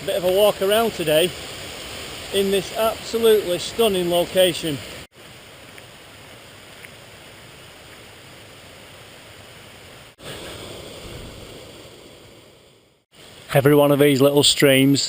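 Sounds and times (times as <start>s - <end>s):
stream water rushing: 0.0s - 13.9s.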